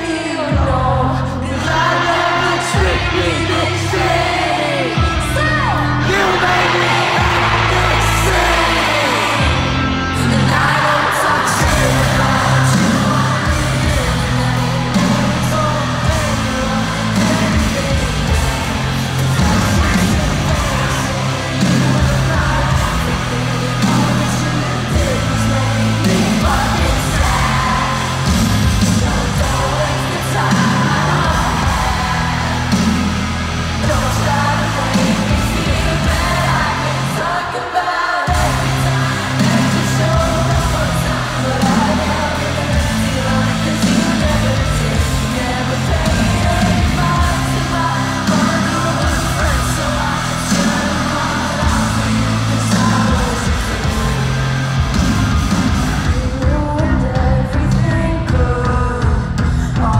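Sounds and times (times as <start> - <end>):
heavy bass: 0.0 - 59.9
live rock band: 0.0 - 59.9
sung lead vocal: 0.0 - 59.9.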